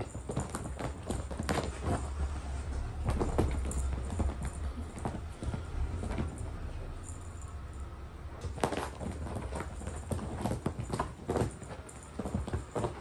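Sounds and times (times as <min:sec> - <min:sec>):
cat paws thumping on cushions: 0:00.0 - 0:13.0.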